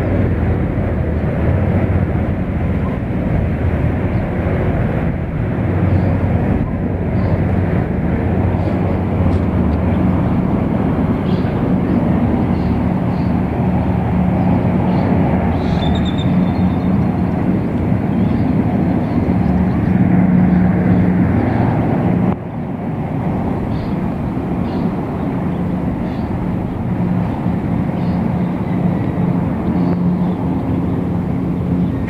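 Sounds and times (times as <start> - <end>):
helicopter passing: 0.0 - 32.0.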